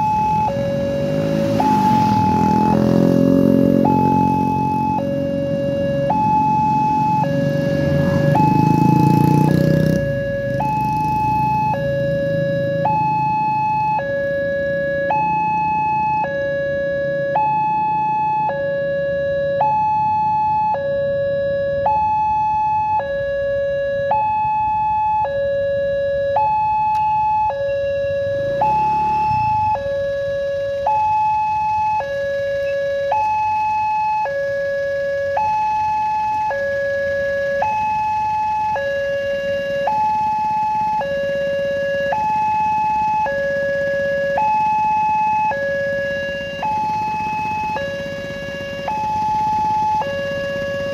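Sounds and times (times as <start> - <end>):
level-crossing two-tone alarm: 0.0 - 50.9
passing road traffic rumble: 0.0 - 50.9.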